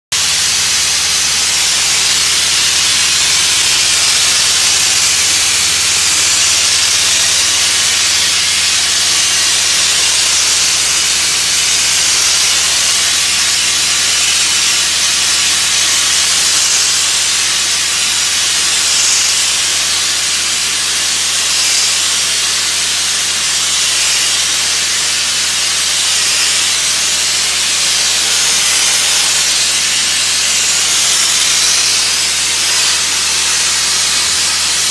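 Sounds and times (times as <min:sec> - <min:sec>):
blasting nozzle hissing: 0:00.2 - 0:34.9.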